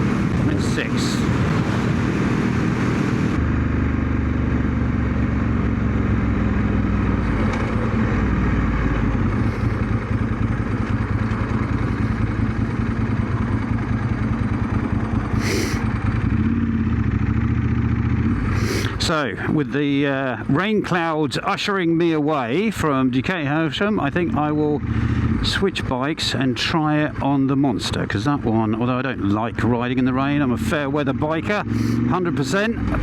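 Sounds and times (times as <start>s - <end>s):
motorcycle engine running: 0.0s - 21.2s, 22.5s - 33.0s.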